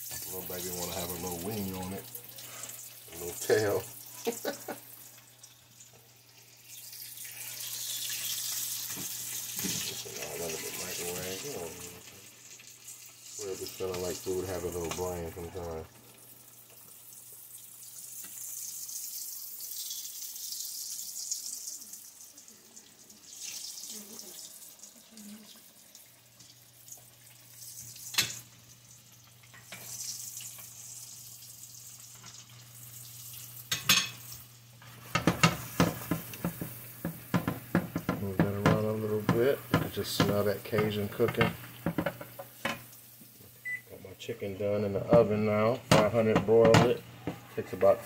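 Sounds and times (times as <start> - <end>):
food sizzling in hot oil: 0.0 - 48.0.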